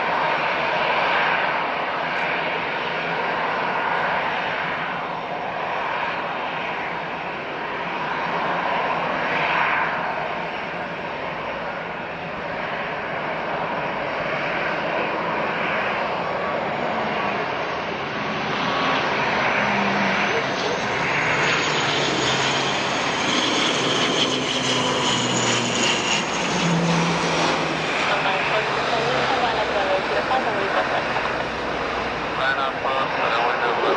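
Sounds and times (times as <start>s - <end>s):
turboprop engines and propellers: 0.0s - 33.9s.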